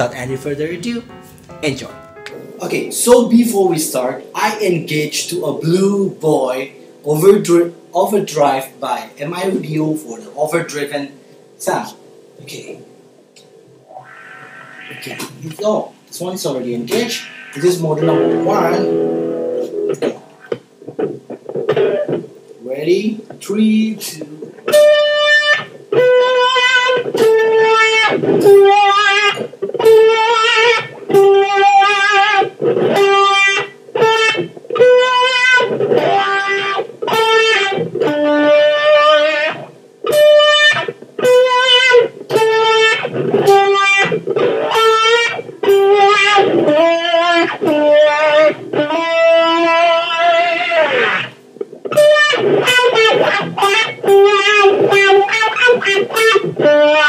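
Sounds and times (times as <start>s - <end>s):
electric guitar with wah: 0.0s - 2.9s, 12.1s - 16.0s, 16.6s - 22.6s, 23.2s - 57.0s.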